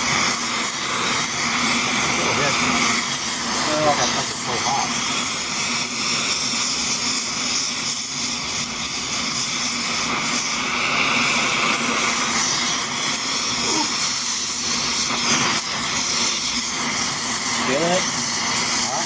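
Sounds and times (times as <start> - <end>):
blow torch flame hissing: 0.0 - 19.0.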